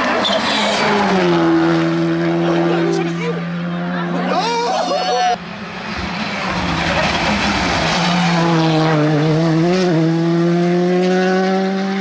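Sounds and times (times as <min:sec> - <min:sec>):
car engine at high revs: 0:00.0 - 0:04.6, 0:05.4 - 0:12.0
tyre and road noise: 0:00.0 - 0:12.0.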